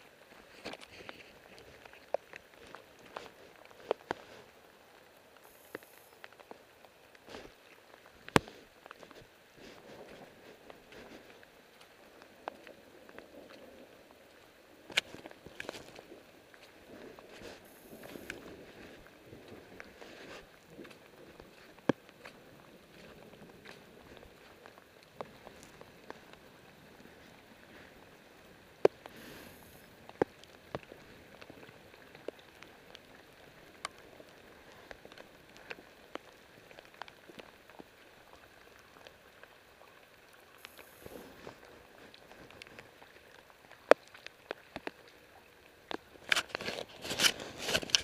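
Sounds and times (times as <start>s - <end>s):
rain falling on water: 0.0s - 48.0s
water drops and drips: 0.2s - 48.0s.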